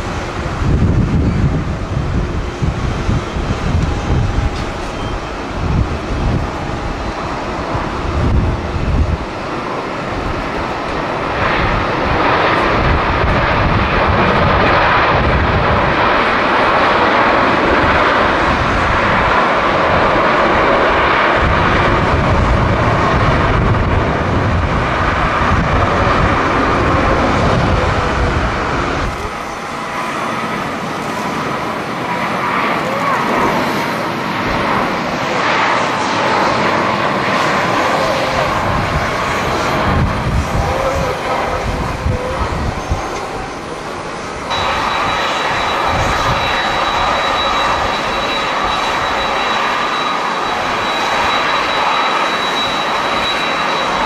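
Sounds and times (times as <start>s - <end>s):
wind on microphone: 0.0s - 31.8s, 36.4s - 54.0s
jet engines roaring: 0.0s - 54.0s.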